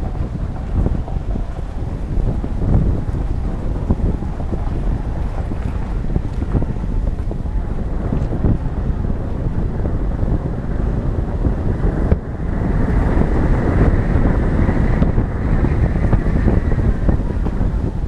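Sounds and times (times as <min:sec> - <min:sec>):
vehicle rumble: 0:00.0 - 0:18.0
wind buffeting microphone: 0:00.0 - 0:18.0.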